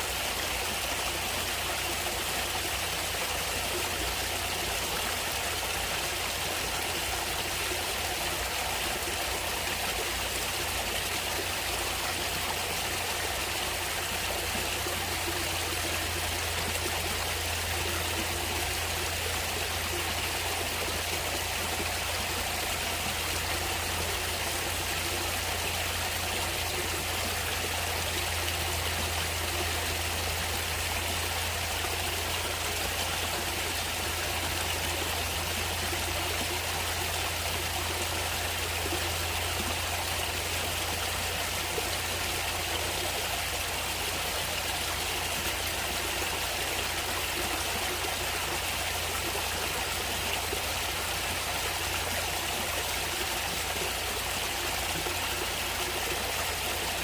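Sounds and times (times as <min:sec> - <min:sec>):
stream of water running: 0:00.0 - 0:57.0.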